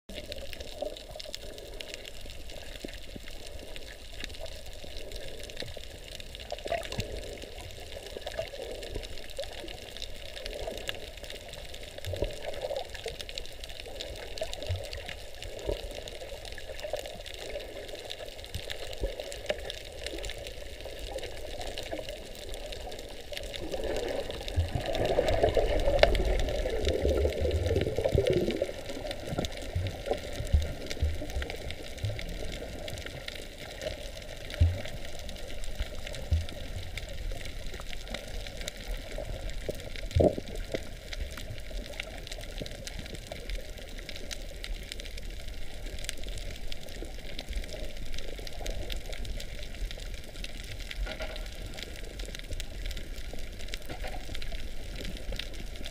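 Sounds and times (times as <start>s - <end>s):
muffled underwater water noise: 0.1s - 55.9s
rush of moving water: 0.1s - 55.9s.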